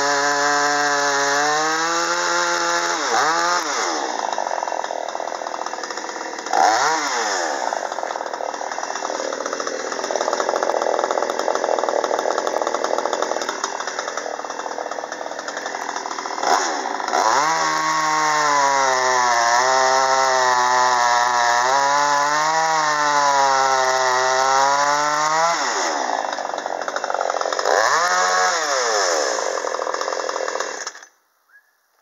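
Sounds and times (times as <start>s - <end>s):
chainsaw cutting log: 0.0s - 31.2s.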